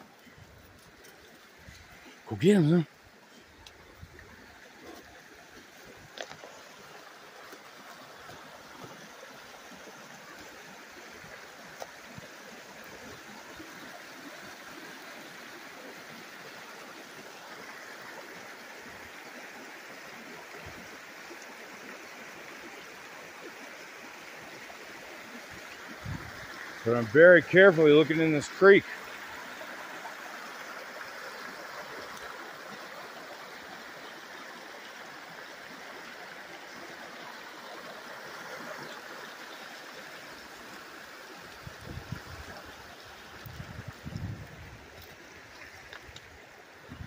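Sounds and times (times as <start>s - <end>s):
creek running over rocks: 0.0s - 47.0s.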